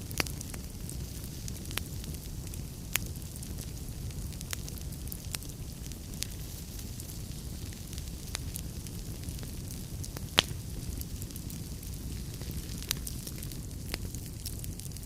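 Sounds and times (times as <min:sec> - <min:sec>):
burning wood popping: 0:00.0 - 0:15.0
fire burning in fireplace: 0:00.0 - 0:15.0.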